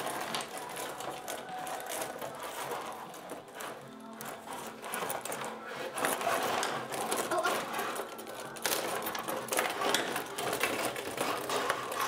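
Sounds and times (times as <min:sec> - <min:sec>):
metal rods sliding and spinning: 0:00.0 - 0:12.0
plastic players and puck clattering: 0:00.0 - 0:12.0.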